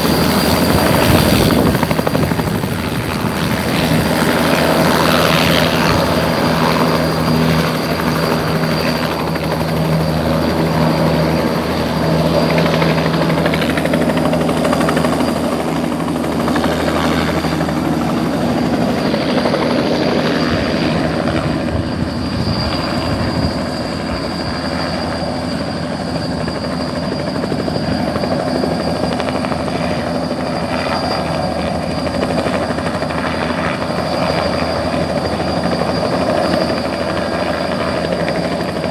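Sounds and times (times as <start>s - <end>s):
helicopter engine hum: 0.0s - 38.9s.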